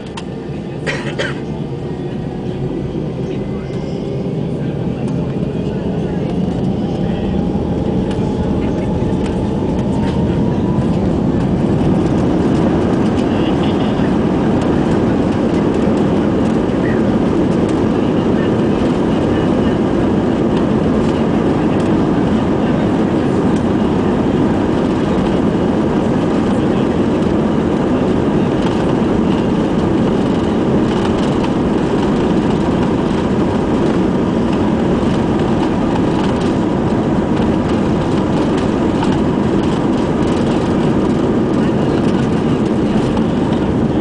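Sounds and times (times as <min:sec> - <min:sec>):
jet engines and aircraft rolling: 0:00.0 - 0:44.0.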